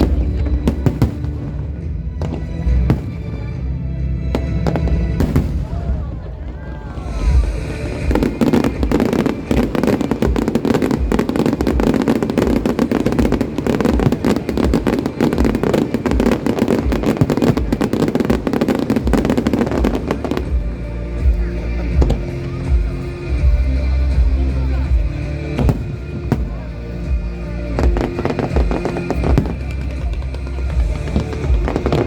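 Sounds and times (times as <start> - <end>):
deep fireworks booms: 0.0 - 32.0
fireworks bangs and crackling: 0.0 - 32.0.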